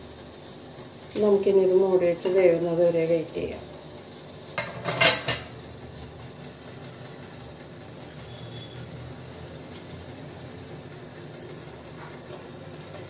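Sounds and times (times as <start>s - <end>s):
steamer water boiling hiss: 0.0s - 13.0s.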